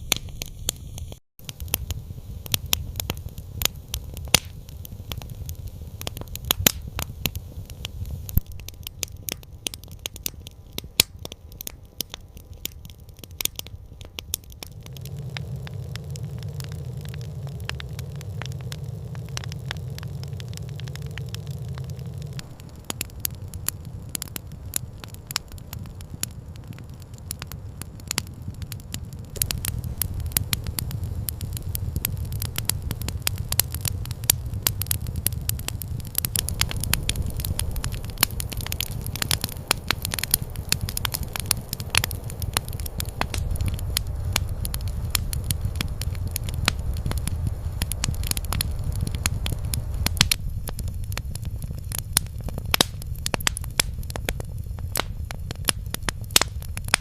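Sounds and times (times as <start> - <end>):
campfire crackling and popping: 0.0 - 57.0
low steady rumble: 0.0 - 57.0.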